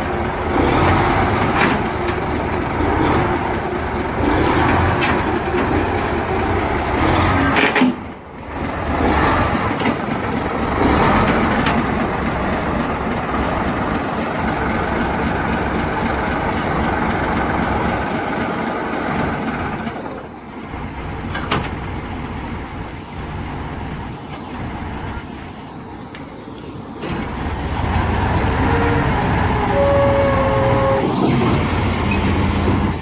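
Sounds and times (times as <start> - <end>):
heavy vehicle running: 0.0 - 33.0.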